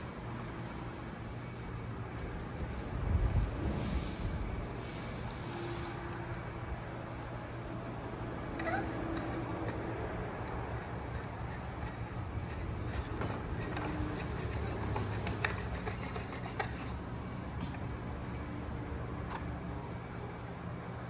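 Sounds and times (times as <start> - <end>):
workshop hum: 0.0 - 21.0.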